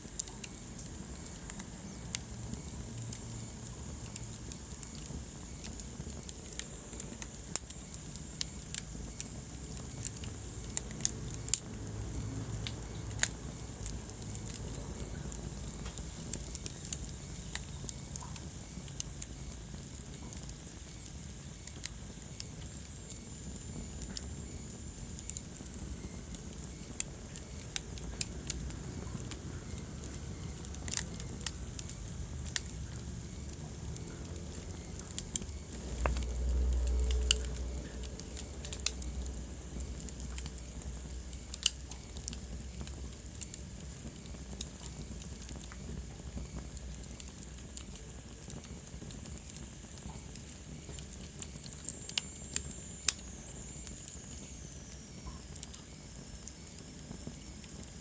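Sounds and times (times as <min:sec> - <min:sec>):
low rumble of burning: 0:00.0 - 0:58.0
wood fire crackling: 0:00.0 - 0:58.0.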